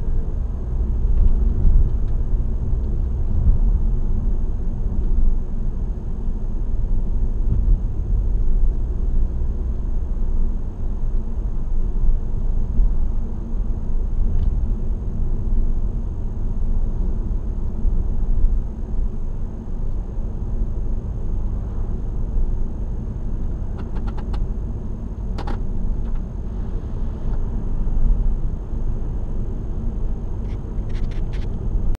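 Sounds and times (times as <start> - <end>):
car interior road rumble: 0.0 - 31.9.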